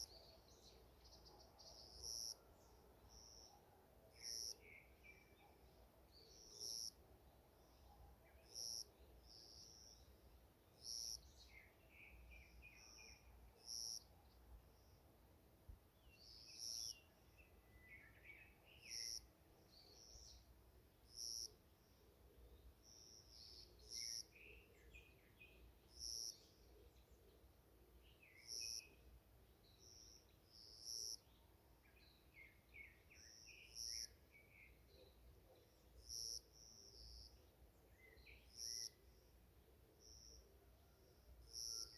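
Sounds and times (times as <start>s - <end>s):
faint birdsong chirps: 0.0s - 41.9s.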